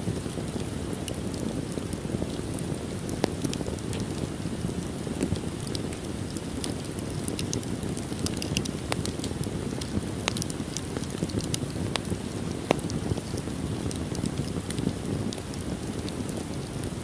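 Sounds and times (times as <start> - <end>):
low rumble of flames: 0.0 - 17.0
wood crackling and popping: 0.0 - 17.0.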